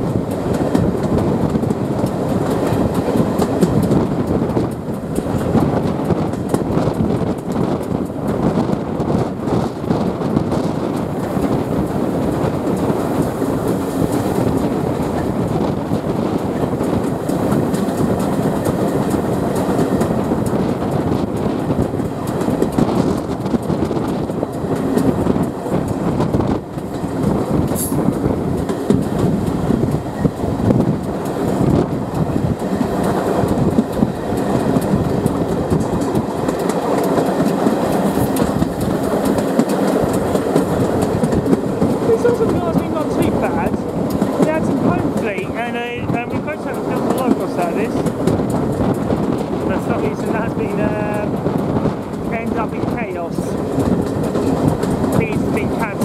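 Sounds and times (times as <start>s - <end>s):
train wheel and track noise: 0.0s - 56.0s.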